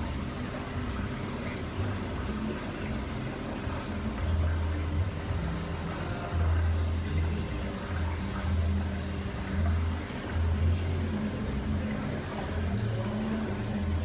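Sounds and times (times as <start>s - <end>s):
aquarium water hiss: 0.0s - 14.0s.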